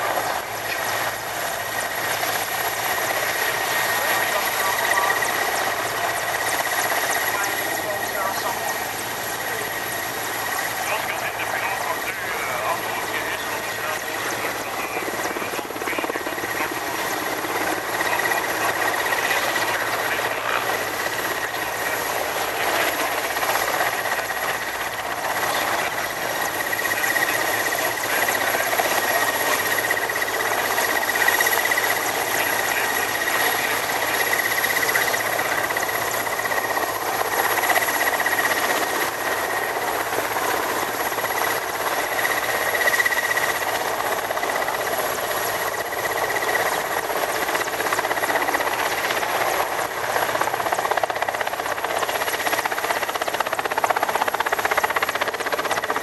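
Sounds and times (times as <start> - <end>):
helicopter rotor chop: 0.0 - 56.0
high engine whine: 0.0 - 56.0.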